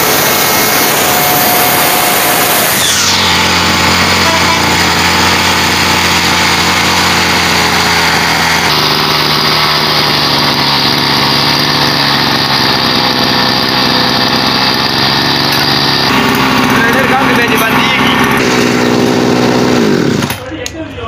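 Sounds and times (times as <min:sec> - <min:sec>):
brush cutter engine idling: 0:03.2 - 0:20.5.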